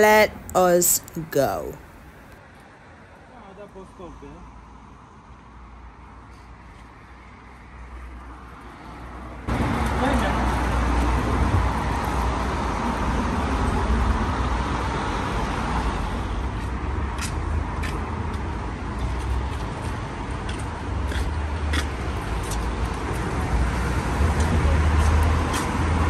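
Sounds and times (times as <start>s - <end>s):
cars passing on wet road: 1.9s - 26.0s.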